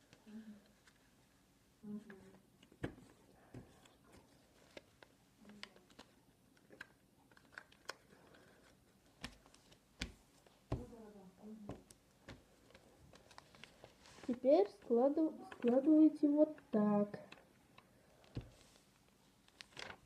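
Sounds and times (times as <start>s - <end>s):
paper crinkling and folding: 3.0s - 20.0s.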